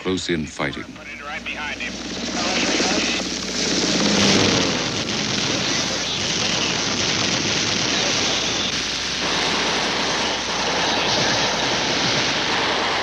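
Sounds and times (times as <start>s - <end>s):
helicopter rotor and engine noise: 0.0s - 13.0s.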